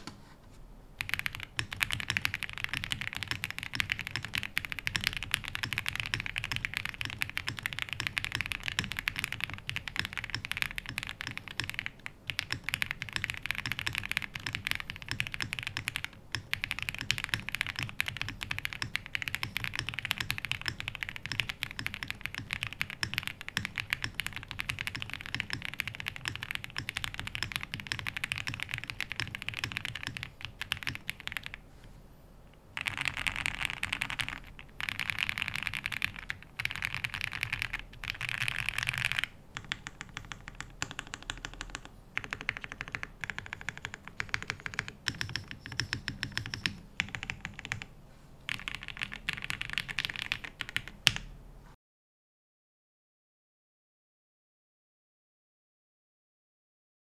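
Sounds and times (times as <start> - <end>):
mechanical keyboard typing: 1.0 - 31.6, 32.7 - 47.9, 48.5 - 51.3.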